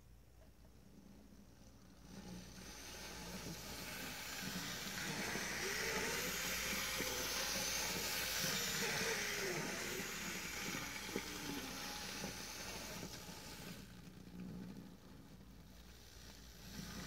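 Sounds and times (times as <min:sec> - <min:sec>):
faint hum: 0:00.0 - 0:17.0
model train whirring: 0:00.9 - 0:17.0.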